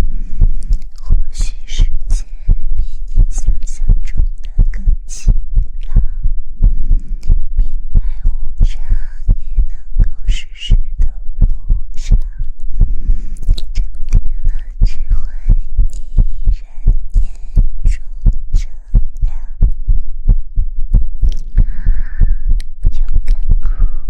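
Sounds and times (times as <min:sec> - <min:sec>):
deep hum: 0:00.0 - 0:24.0
soft heartbeat thumps: 0:00.0 - 0:24.0.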